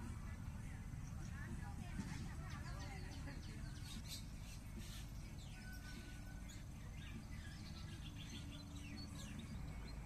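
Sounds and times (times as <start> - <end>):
low outdoor rumble: 0.0 - 10.0
small birds chirping: 0.0 - 10.0.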